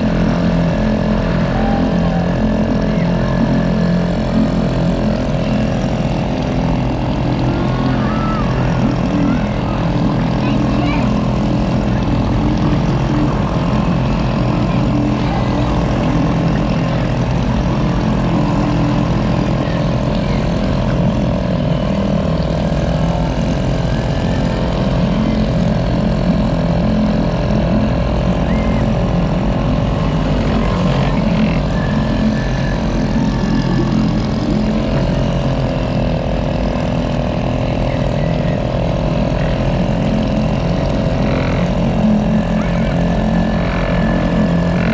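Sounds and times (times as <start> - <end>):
small boat engine running: 0.0 - 44.9.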